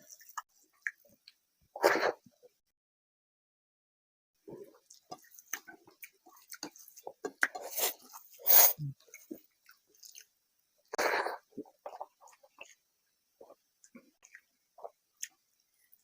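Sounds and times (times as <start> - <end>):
wet chewing and mouth sounds: 0.0 - 1.4, 4.5 - 16.0.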